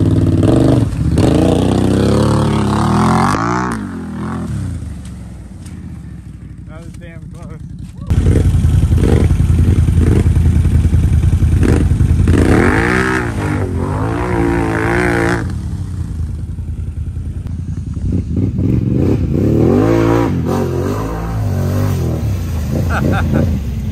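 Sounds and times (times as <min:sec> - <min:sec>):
atv engines revving: 0:00.0 - 0:23.9.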